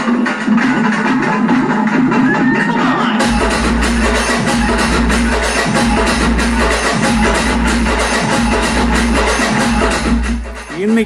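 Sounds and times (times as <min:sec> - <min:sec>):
heavy bass line: 0:00.0 - 0:11.0
music with drums: 0:00.0 - 0:11.0.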